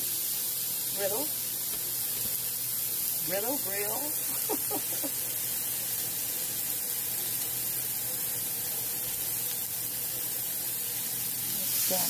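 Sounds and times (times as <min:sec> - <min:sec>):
patty sizzling on a griddle: 0:00.0 - 0:12.0.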